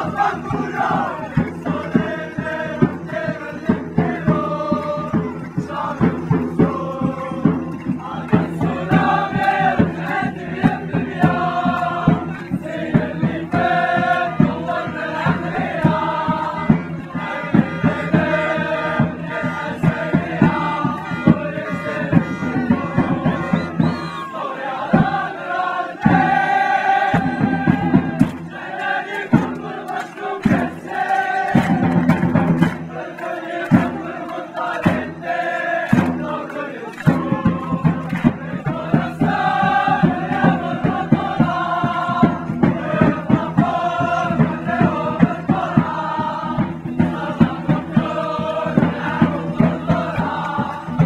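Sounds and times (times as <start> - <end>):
crowd of men chanting: 0.0 - 51.0
fast steady drum beat: 0.0 - 51.0.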